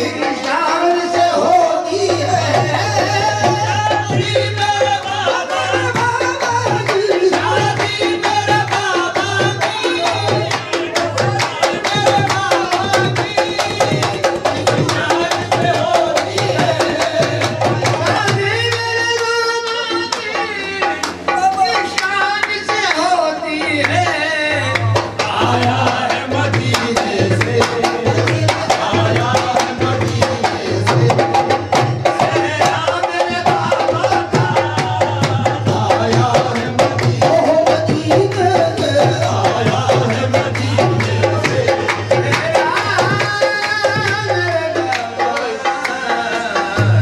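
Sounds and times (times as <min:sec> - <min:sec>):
tabla and drum beat: 0:00.0 - 0:47.0
voices singing: 0:00.0 - 0:47.0.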